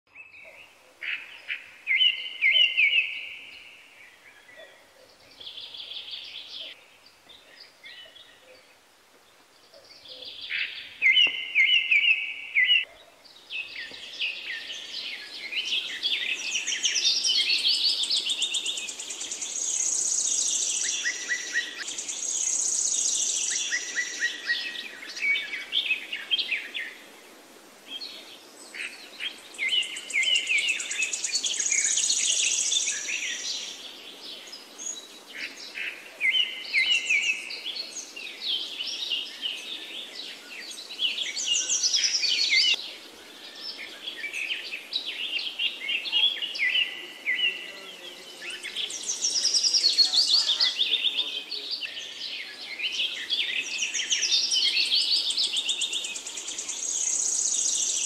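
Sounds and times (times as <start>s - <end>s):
songbirds chirping and trilling: 0.1s - 58.0s
faint background hiss: 0.2s - 58.0s.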